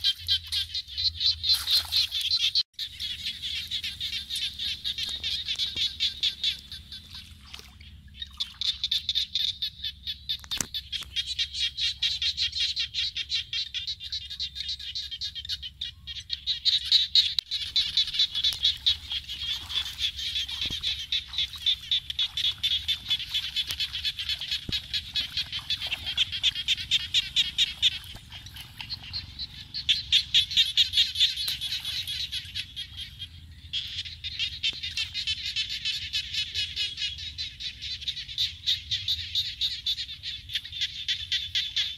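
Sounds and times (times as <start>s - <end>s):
small animals calling: 0.0s - 7.2s, 8.7s - 41.9s.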